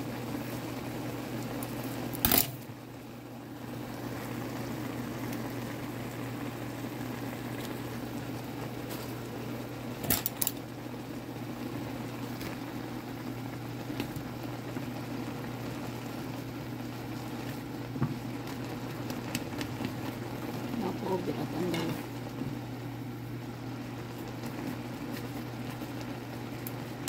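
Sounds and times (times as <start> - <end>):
water boiling: 0.0 - 27.0.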